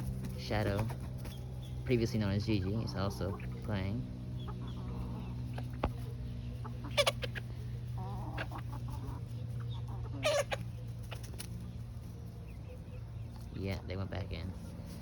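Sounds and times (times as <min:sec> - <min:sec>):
hens clucking: 0:00.0 - 0:15.0
steady low hum: 0:00.0 - 0:15.0.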